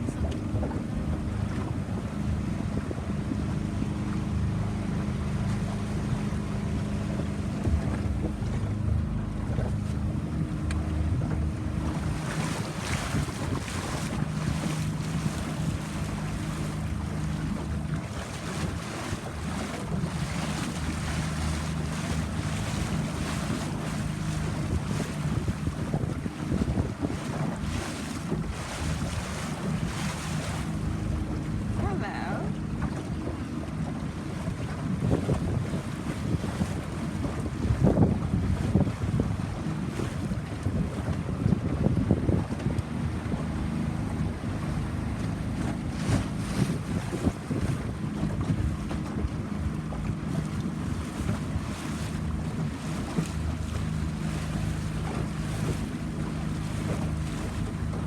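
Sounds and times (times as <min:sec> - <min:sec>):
boat engine running: 0:00.0 - 0:58.0
wind buffeting microphone: 0:00.0 - 0:58.0
rushing water: 0:09.7 - 0:41.5, 0:42.4 - 0:58.0.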